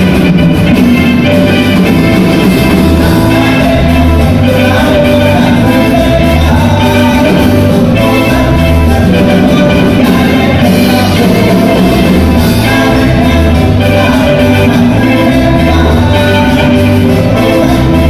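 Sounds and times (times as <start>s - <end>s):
latin dance music with singing: 0.0s - 18.0s.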